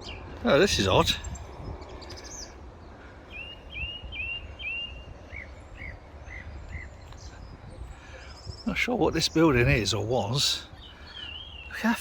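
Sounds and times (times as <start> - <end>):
small bird chirping: 0.0 - 2.6, 3.3 - 12.0.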